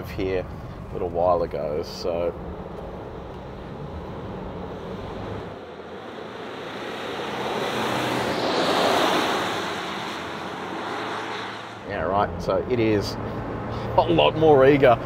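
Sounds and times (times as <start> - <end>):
low engine hum: 0.0 - 15.0
vehicle driving past: 2.3 - 15.0.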